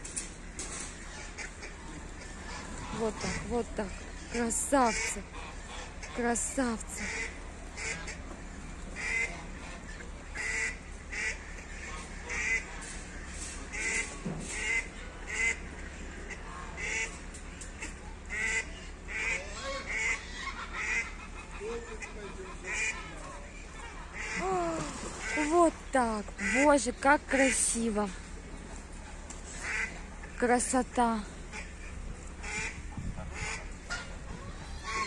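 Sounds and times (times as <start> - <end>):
waterfowl honking and quacking: 0.6 - 28.3, 29.5 - 30.7, 31.4 - 35.0.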